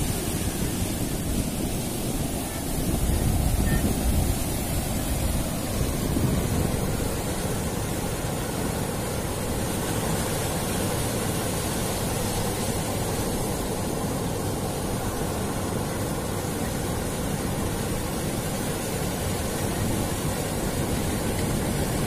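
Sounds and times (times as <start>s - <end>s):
sea surf breaking: 0.0s - 22.0s
wind rumbling on microphone: 0.0s - 22.0s.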